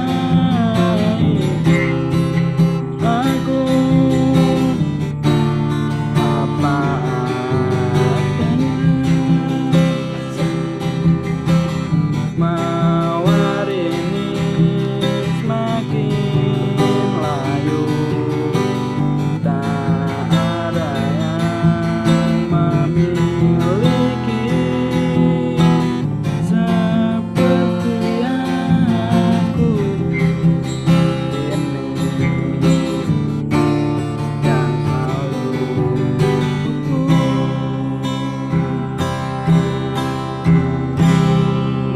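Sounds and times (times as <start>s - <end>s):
strummed acoustic guitar: 0.0s - 41.9s.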